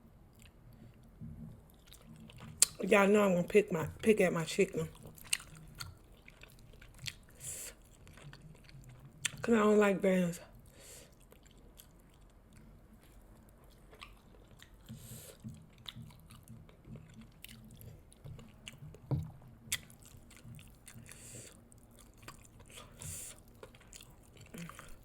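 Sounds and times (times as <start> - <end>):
chewing and biting chicken: 0.3 - 2.8, 4.9 - 9.4, 10.5 - 25.0.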